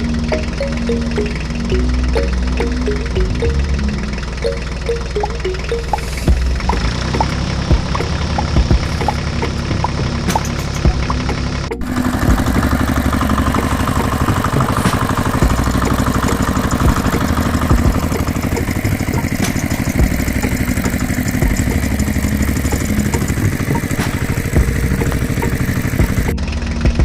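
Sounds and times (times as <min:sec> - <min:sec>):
tractor engine idling: 0:00.0 - 0:27.0.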